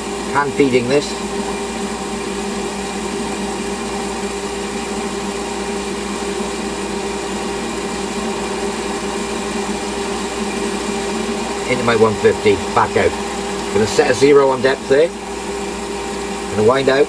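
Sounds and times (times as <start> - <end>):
lathe motor humming: 0.0 - 17.0
lathe tool cutting metal: 0.0 - 17.0.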